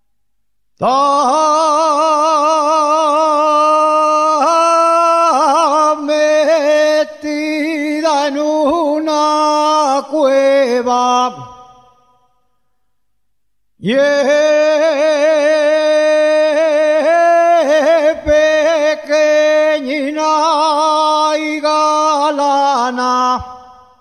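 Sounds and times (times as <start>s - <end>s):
solo voice singing: 0.8s - 12.3s, 13.8s - 24.0s.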